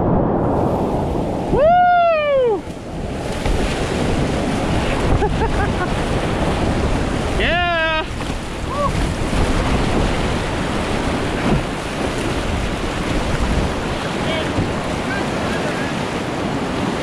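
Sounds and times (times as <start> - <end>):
whitewater rapids rushing: 1.5 - 17.0.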